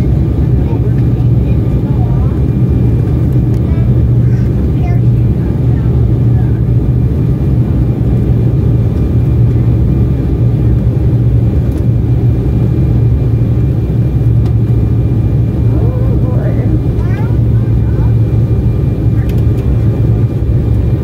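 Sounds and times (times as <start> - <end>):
jet cabin roar: 0.0 - 21.0
strong low hum: 0.0 - 21.0.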